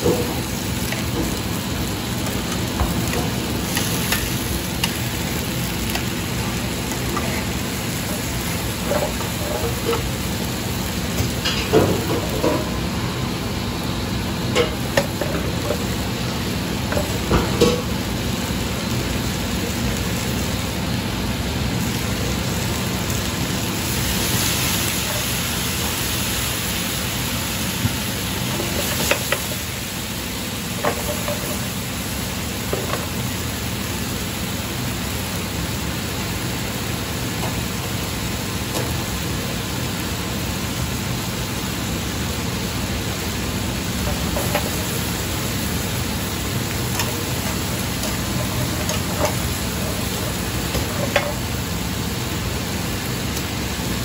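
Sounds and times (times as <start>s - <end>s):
chicken sizzling in frying pans: 0.0s - 54.0s.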